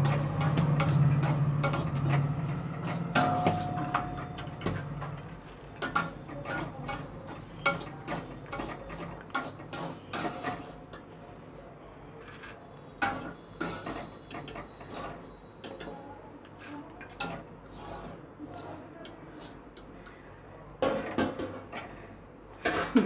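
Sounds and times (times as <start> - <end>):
sieve scraping against iron pan: 0.0 - 11.5, 12.2 - 19.7.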